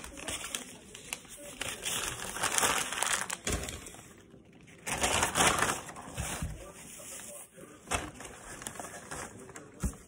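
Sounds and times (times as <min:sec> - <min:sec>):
paper wrapper crumpling: 0:00.0 - 0:06.4, 0:07.9 - 0:09.8.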